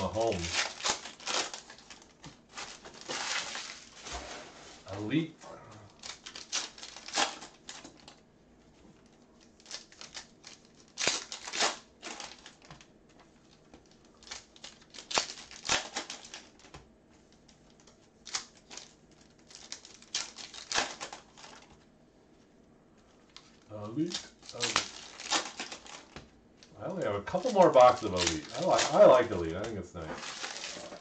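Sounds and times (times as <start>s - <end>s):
foil wrappers crinkling: 0.0s - 5.1s, 5.8s - 8.2s, 9.0s - 21.8s, 23.2s - 31.0s.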